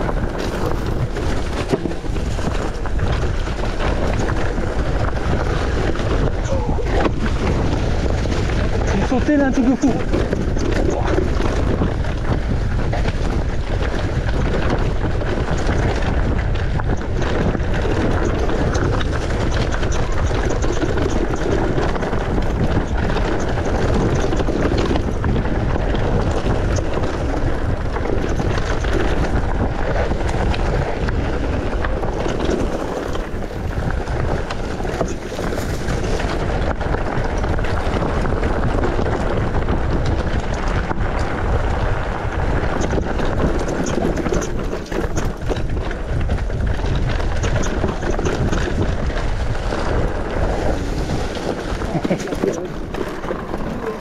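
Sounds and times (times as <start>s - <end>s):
bike clattering over rocky trail: 0.0s - 54.0s
wind buffeting microphone: 0.0s - 54.0s.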